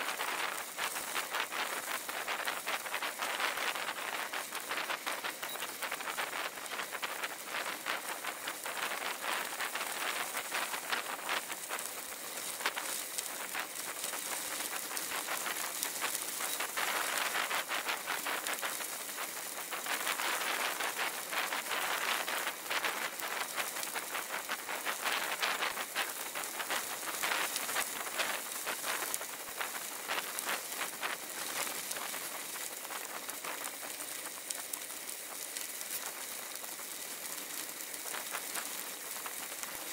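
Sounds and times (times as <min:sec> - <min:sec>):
bicycle tyres on gravel: 0:00.0 - 0:39.9.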